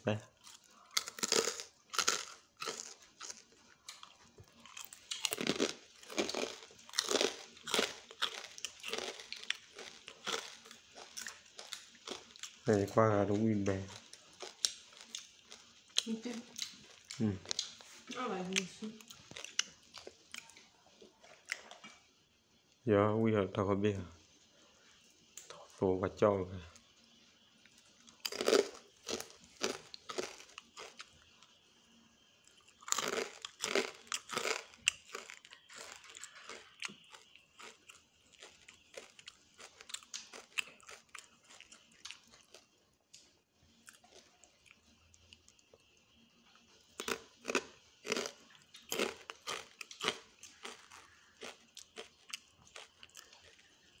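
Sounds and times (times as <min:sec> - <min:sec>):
person chewing crisp food: 0:00.4 - 0:22.1, 0:27.7 - 0:31.6, 0:32.2 - 0:54.0.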